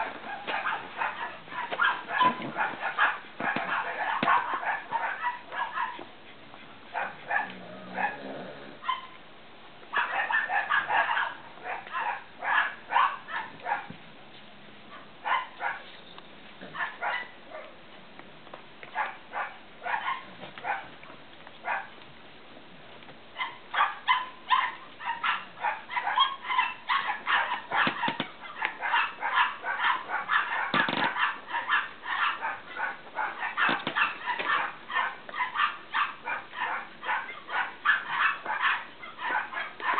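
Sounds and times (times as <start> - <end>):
puppies yipping and barking: 0.0 - 9.2, 9.9 - 13.9, 14.9 - 17.7, 19.0 - 20.9, 23.4 - 39.9.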